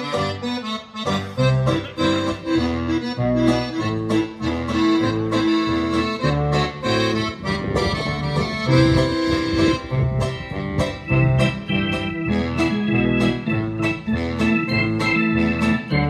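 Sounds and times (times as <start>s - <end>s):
accordion tune: 0.0s - 16.0s
rhythmic bass line: 0.0s - 16.0s.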